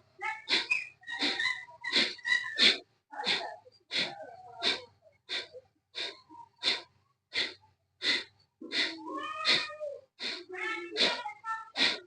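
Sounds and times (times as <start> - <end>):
quiet inhalations: 0.0 - 12.0
sharp nasal exhalations: 0.5 - 12.0.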